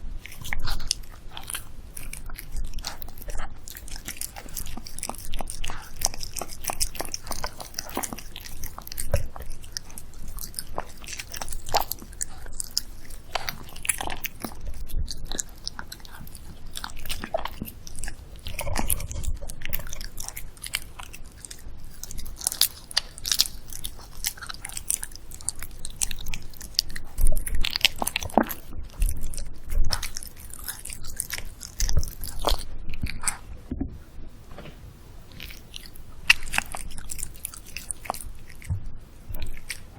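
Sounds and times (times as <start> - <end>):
dog chewing and crunching food: 0.0 - 39.9.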